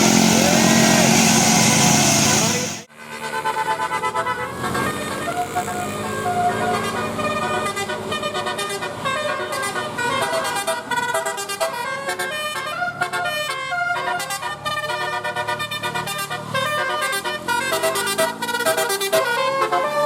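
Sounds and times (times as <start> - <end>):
multi-tone air horn melody: 0.0 - 20.0.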